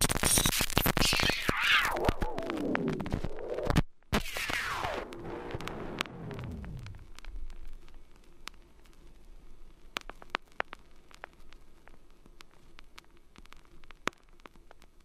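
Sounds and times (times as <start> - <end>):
sharp clicks and crackles: 0.0 - 15.0
faint hum and hiss: 2.0 - 15.0.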